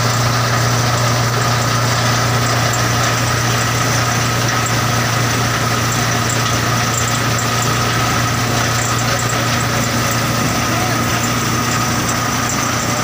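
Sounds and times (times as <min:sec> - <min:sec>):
thin machine whine: 0:00.0 - 0:13.0
tractor engine droning: 0:00.0 - 0:13.0.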